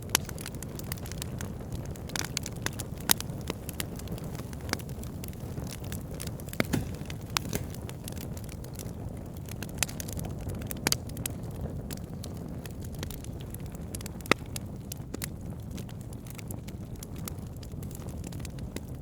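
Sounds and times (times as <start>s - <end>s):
burning logs crackling: 0.0s - 19.0s.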